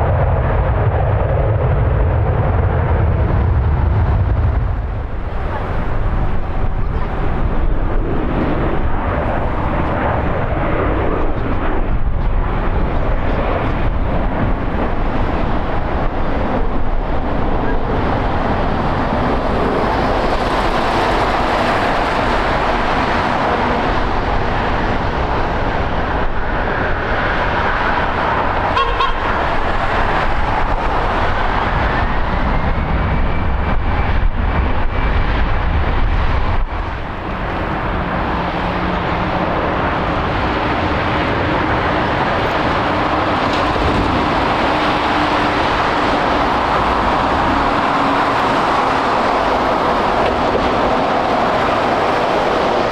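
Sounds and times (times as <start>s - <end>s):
jet engines running loud: 0.0s - 52.9s.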